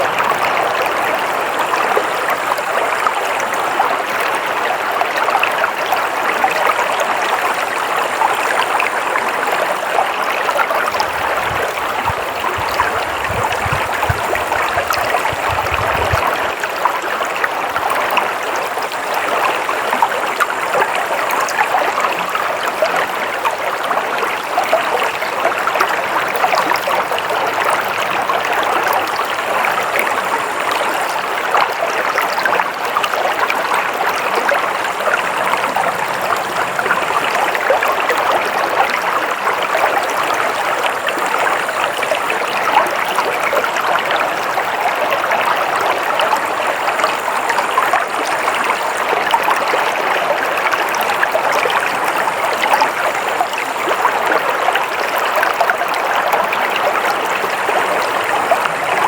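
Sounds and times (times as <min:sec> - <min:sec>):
stream water rushing and babbling: 0:00.0 - 0:59.0.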